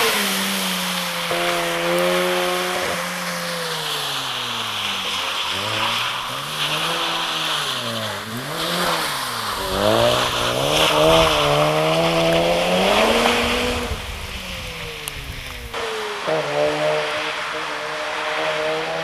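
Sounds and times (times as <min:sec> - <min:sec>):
rotary engine revving: 0:00.0 - 0:19.0.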